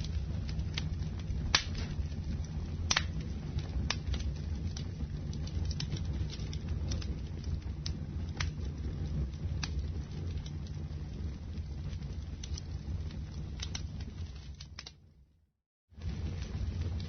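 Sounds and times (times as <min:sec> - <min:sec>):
wood fire crackling and popping: 0:00.0 - 0:15.3, 0:16.0 - 0:17.0
low rumble of fire flames: 0:00.0 - 0:17.0.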